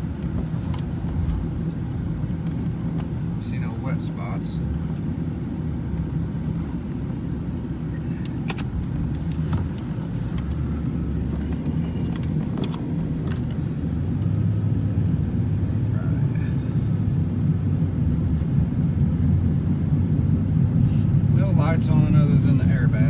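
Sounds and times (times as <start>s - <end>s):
car engine rumbling: 0.0s - 23.0s.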